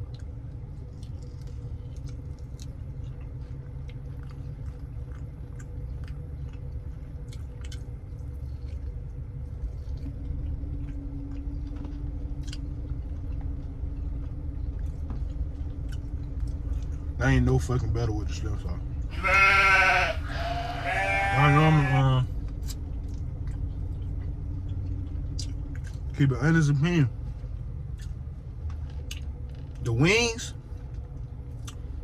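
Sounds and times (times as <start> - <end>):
man chewing chicken wing: 0.0 - 17.2, 19.1 - 26.1, 27.2 - 29.8, 30.7 - 32.0
low background rumble and hum: 0.0 - 32.0.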